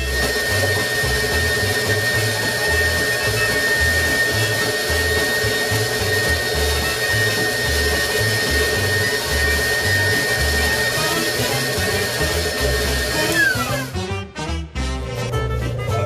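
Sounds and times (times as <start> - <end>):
stand mixer motor whining: 0.0 - 14.1
background music with bass line: 0.0 - 16.0.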